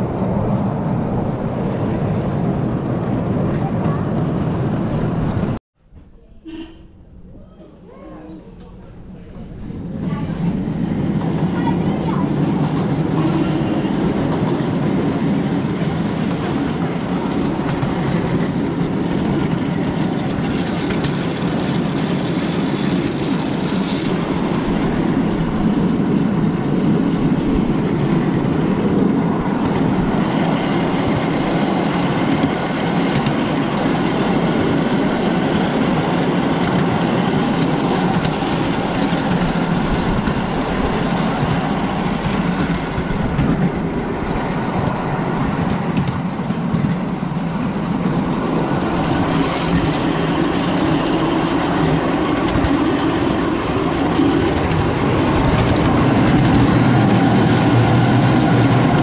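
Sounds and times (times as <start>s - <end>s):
small train wheels rolling on rails: 8.2s - 59.0s.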